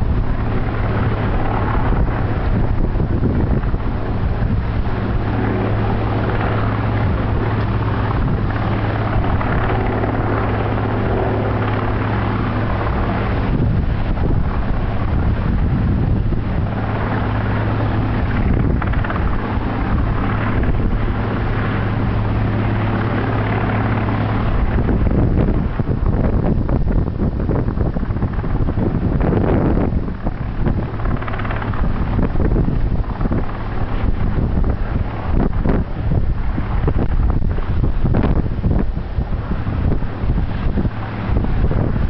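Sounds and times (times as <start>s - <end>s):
helicopter drone: 0.0s - 42.0s
wind noise on microphone: 0.0s - 42.0s.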